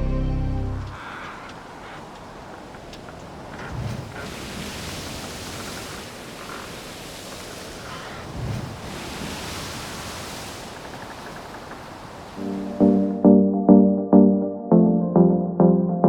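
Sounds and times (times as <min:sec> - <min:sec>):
sea surf washing ashore: 0:00.0 - 0:13.3.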